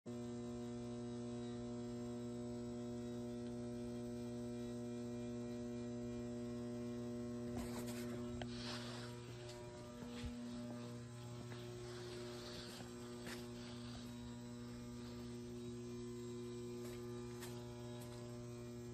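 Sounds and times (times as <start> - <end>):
electrical mains hum: 0.1 - 18.9.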